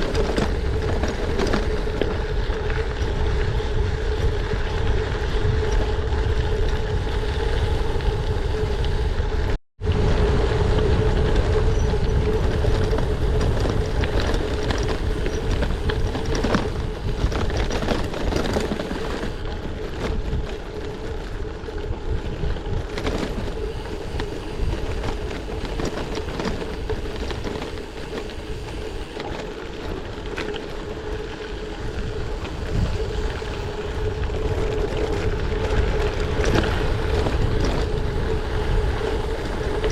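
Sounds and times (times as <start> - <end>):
bike tyres rolling on gravel: 0.0 - 39.9
wind rushing over microphone: 0.0 - 39.9.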